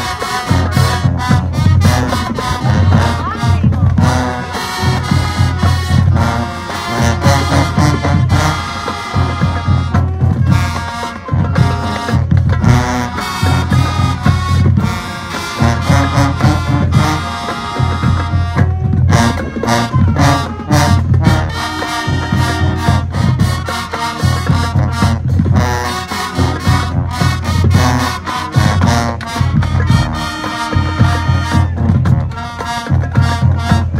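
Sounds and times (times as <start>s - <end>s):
brass lines: 0.0s - 33.9s
drum and cymbal hits: 0.0s - 33.9s.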